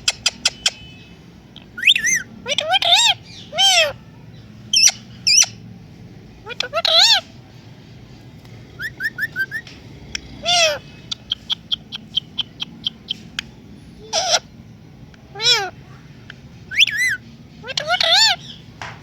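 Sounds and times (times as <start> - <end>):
parrot calling and chirping: 0.0 - 5.6, 6.4 - 7.3, 8.7 - 18.7.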